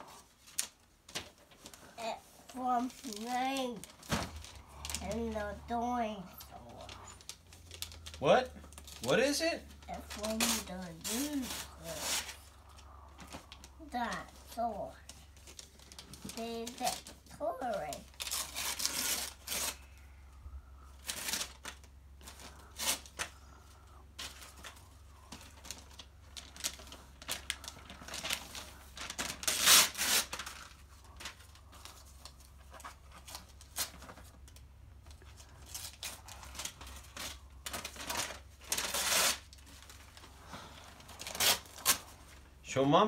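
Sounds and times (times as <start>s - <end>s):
wrapping paper being torn: 0.4s - 14.6s, 15.4s - 20.0s, 20.9s - 23.4s, 24.2s - 34.6s, 35.3s - 40.3s, 41.0s - 42.4s.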